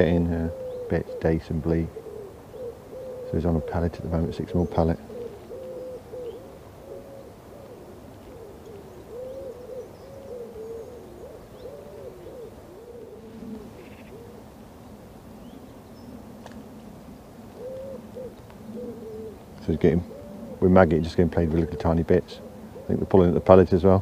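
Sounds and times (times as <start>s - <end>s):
lower pigeon cooing: 0.0s - 24.0s
pigeons cooing: 0.0s - 24.0s.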